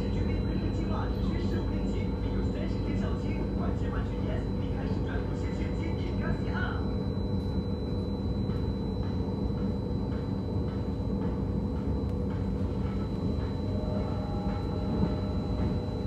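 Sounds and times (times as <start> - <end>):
electric hum: 0.0 - 16.0
train running rumble: 0.0 - 16.0.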